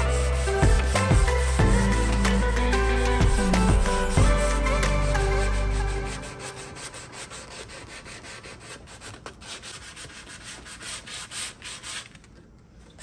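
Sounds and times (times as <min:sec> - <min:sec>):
sanding sponge scratching wood: 0:00.0 - 0:12.2.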